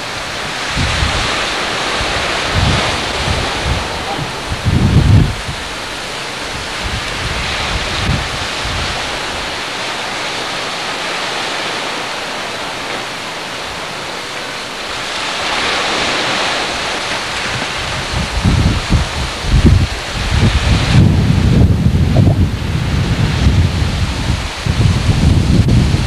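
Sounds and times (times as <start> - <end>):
surf breaking on shore: 0.0 - 26.0
wind buffeting microphone: 0.0 - 26.0.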